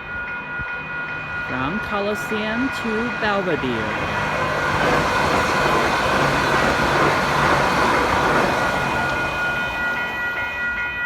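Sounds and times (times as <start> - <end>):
train rolling noise: 0.0 - 11.0.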